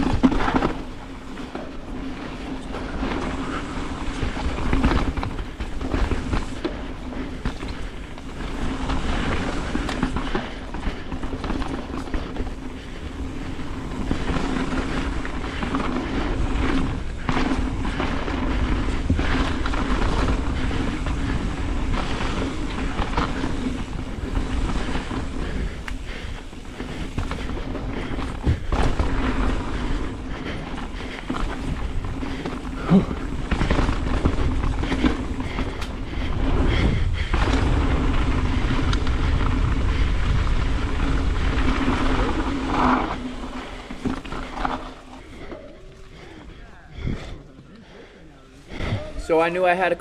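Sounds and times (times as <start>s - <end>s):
wind noise on microphone: 0.0s - 44.9s
bike chain and frame rattling: 0.0s - 50.0s
bike tyres on dirt: 0.0s - 50.0s.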